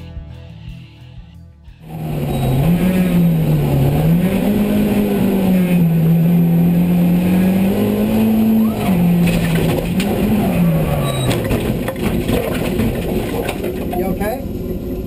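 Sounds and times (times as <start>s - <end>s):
road and wind noise: 1.2s - 15.0s
car engine under hard driving: 1.8s - 15.0s.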